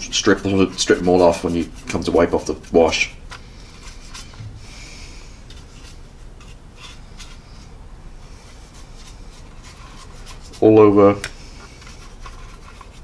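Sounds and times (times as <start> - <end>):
paintbrush strokes on plastic: 0.0 - 4.5, 5.5 - 13.0.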